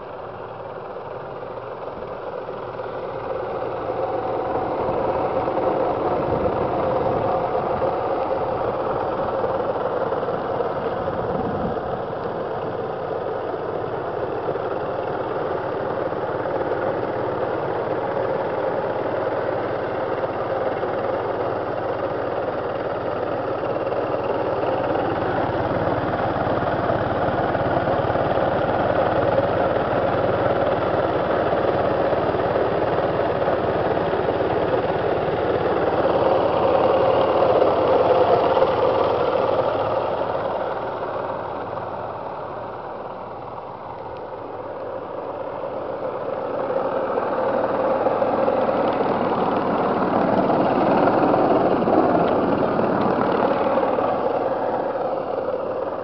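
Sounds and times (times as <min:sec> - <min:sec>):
railcar engine running: 0:00.0 - 0:56.0.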